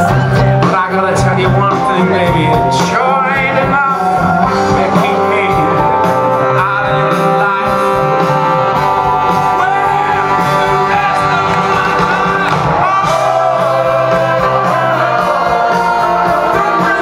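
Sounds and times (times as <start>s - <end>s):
live rock band with electric guitar: 0.0s - 17.0s
man singing: 0.0s - 17.0s.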